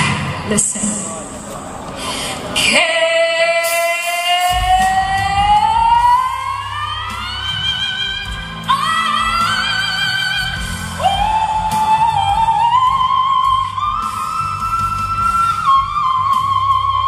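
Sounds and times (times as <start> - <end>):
band backing: 0.0 - 17.0.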